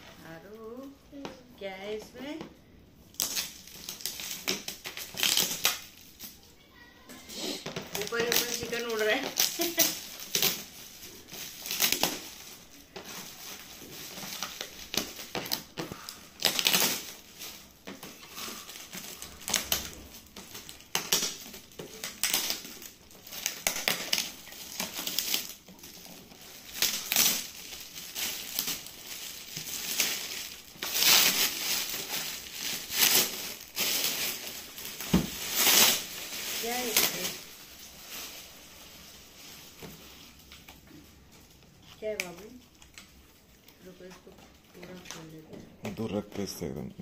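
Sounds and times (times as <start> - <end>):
wrapping paper crinkling and tearing: 3.1 - 47.0.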